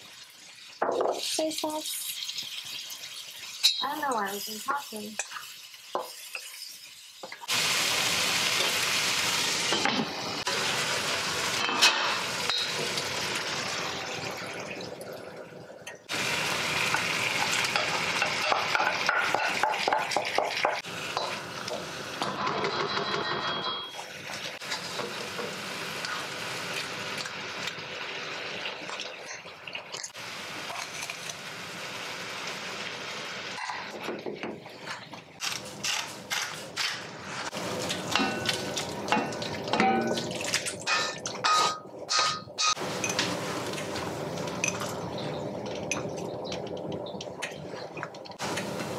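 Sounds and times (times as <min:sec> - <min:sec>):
tomatoes sizzling in a wok: 0:00.0 - 0:14.9, 0:16.0 - 0:22.6, 0:23.9 - 0:48.9.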